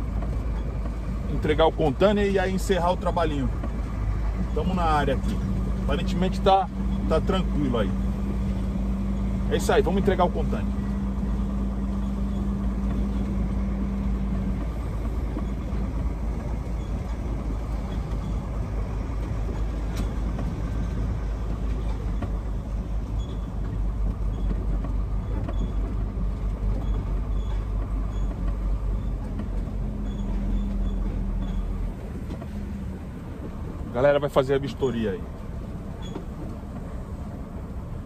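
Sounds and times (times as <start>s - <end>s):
diesel truck engine rumbling: 0.0s - 38.0s.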